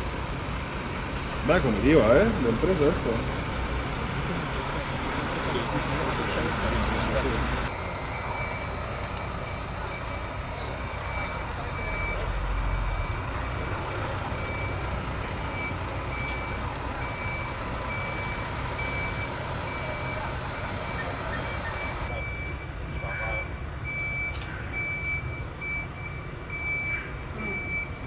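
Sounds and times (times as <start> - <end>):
engine rumble: 0.0 - 28.0
reversing alarm beeping: 1.5 - 28.0.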